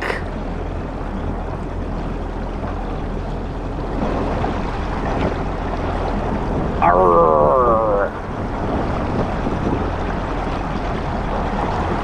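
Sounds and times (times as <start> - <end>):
jet ski engine humming: 0.0 - 12.0.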